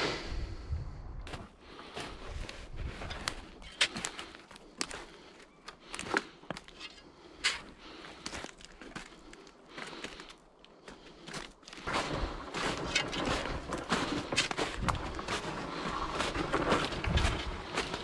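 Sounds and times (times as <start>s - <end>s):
footsteps crunching snow and twigs: 1.2s - 18.0s.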